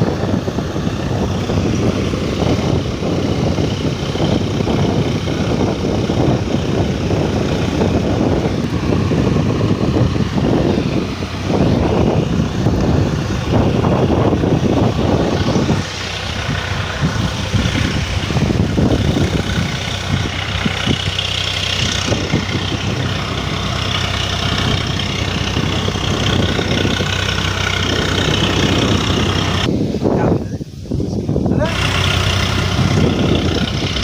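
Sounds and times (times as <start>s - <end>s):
motor engine humming: 0.0s - 34.0s
steady noisy rush: 0.0s - 34.0s.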